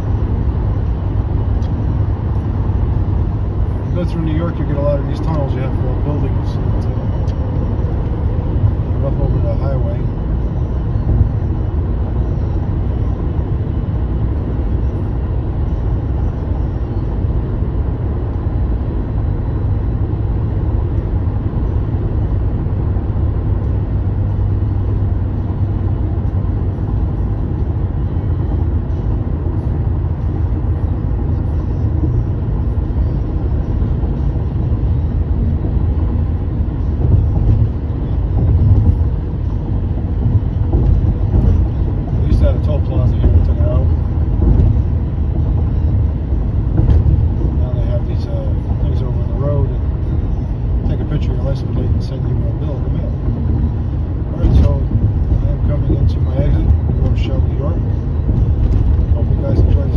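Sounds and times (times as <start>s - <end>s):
car driving on highway: 0.0s - 59.9s.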